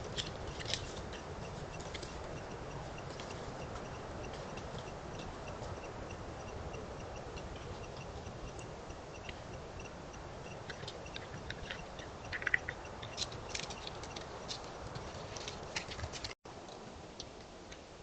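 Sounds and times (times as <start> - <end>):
animal clicks and chirps: 0.0 - 16.3.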